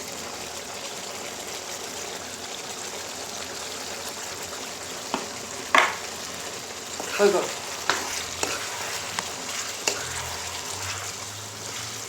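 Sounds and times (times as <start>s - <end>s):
curry simmering and sizzling in pan: 0.0s - 12.0s.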